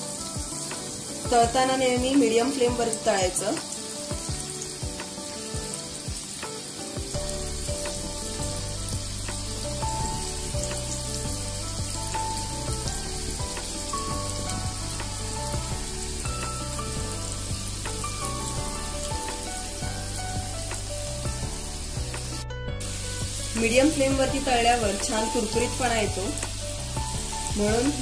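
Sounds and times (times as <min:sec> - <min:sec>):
food deep-frying in oil: 0:00.0 - 0:28.0
soft background music: 0:00.0 - 0:28.0.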